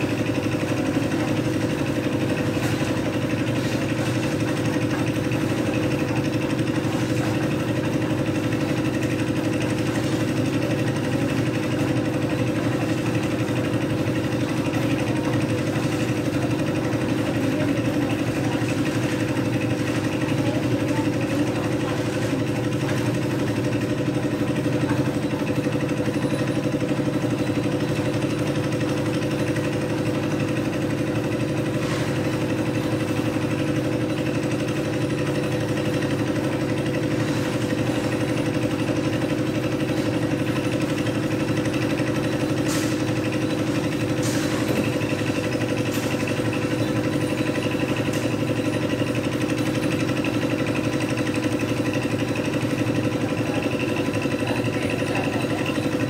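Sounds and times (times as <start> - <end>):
concrete mixer engine running: 0.0 - 56.0.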